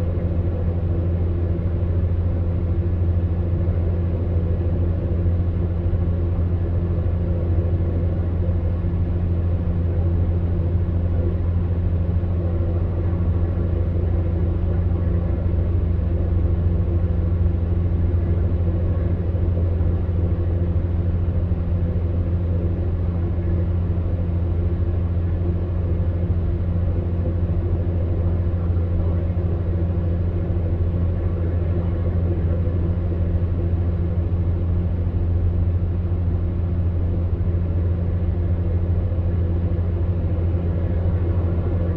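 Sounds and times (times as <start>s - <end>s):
fan heater humming: 0.0s - 41.9s.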